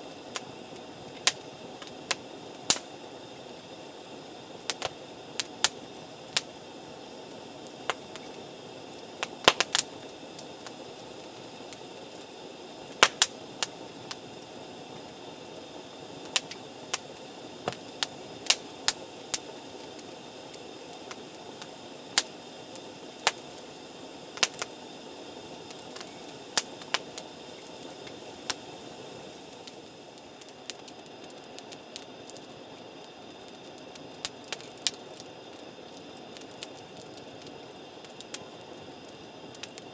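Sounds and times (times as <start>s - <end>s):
campfire crackling and popping: 0.0s - 39.9s
steady background hiss: 0.0s - 39.9s.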